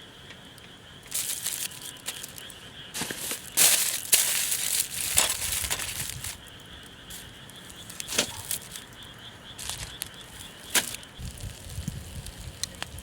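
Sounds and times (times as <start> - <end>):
campfire crackling: 0.4 - 13.0.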